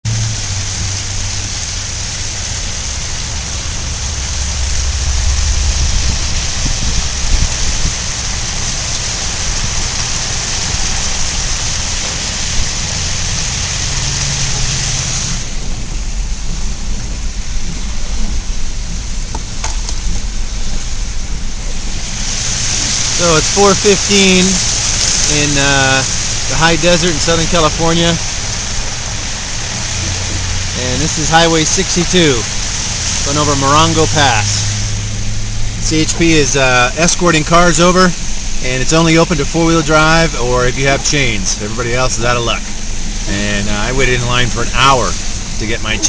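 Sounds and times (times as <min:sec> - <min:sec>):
low engine and road rumble: 0:00.0 - 0:46.0
tyres hissing on wet road: 0:00.0 - 0:46.0.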